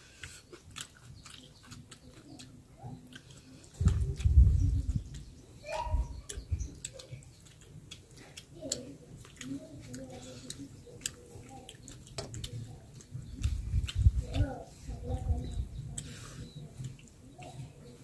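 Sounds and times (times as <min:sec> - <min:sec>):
wet chewing mouth clicks: 0:00.0 - 0:18.0.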